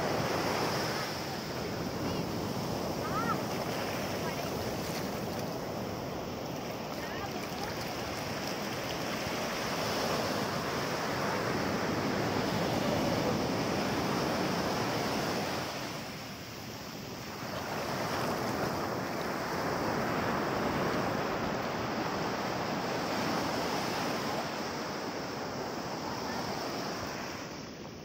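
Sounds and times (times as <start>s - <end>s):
surf washing up beach: 0.0s - 28.0s.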